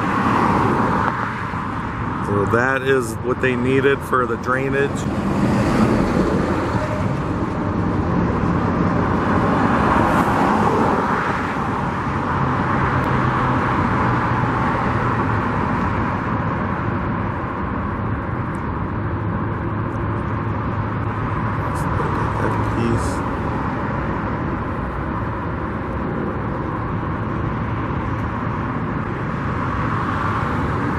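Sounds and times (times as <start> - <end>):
low engine hum: 0.0 - 30.9
vehicles passing: 0.0 - 30.9.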